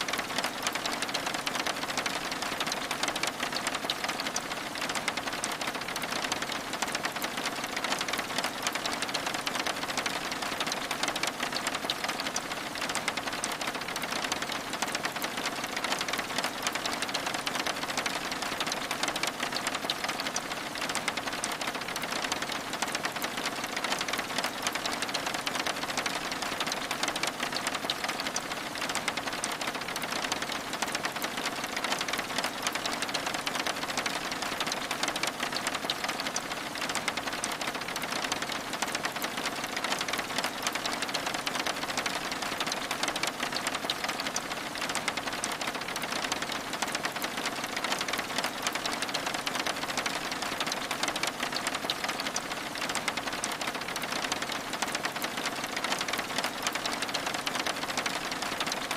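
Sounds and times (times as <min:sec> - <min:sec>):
rain on window glass: 0:00.0 - 0:58.9.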